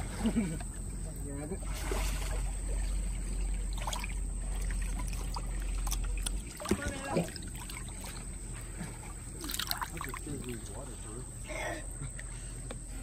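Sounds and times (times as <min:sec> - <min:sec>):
pool water lapping: 0:00.0 - 0:13.0.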